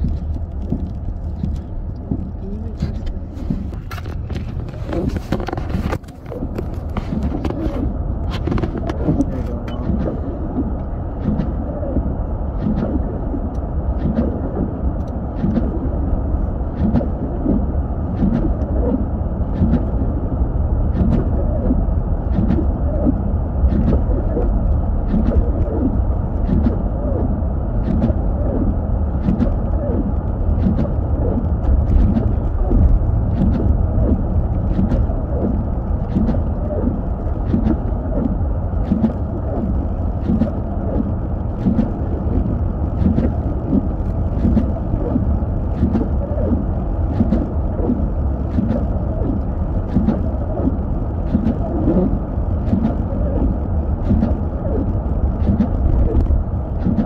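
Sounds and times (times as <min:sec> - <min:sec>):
car driving on snowy road: 0:00.0 - 0:57.0.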